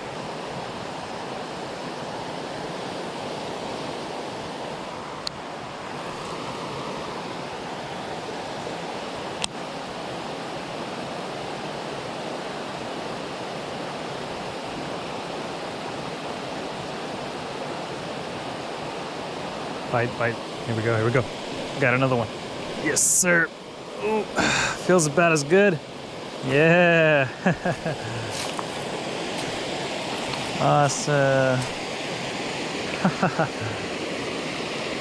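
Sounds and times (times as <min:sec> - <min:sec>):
water rushing over waterfall: 0:00.0 - 0:35.0.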